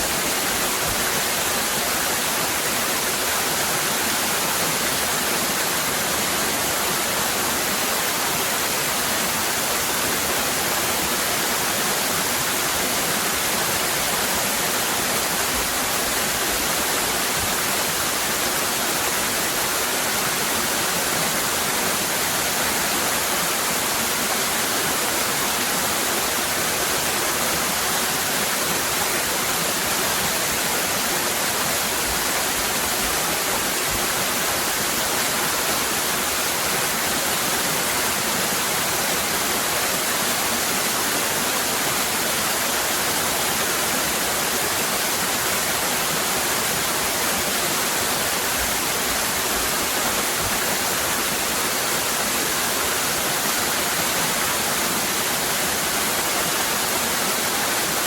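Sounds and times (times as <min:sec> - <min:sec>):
waterfall cascading: 0:00.0 - 0:58.0.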